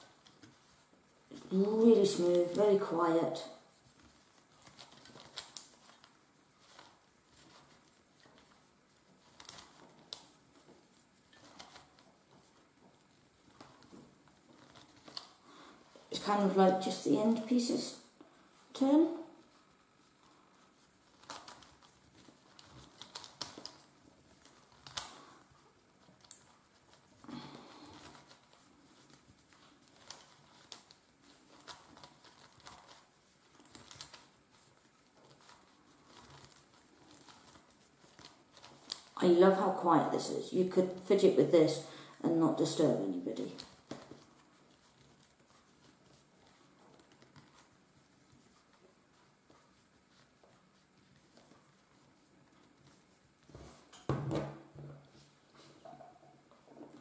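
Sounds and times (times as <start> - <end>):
soft rustling: 0.0 - 57.0.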